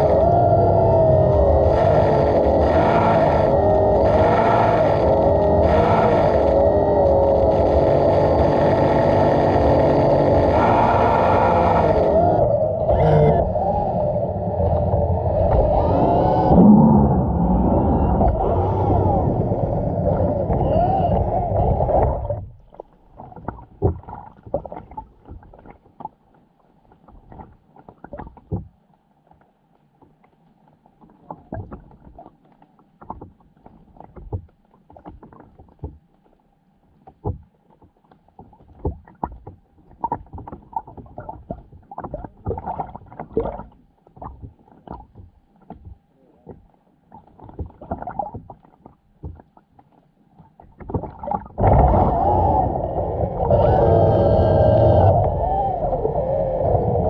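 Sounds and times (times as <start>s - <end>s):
faint steady hum: 0.0s - 57.0s
water sloshing around camera: 0.0s - 57.0s.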